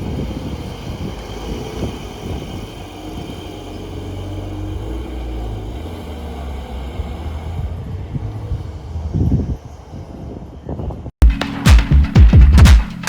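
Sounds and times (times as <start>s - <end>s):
car engine rumbling: 0.0s - 11.2s.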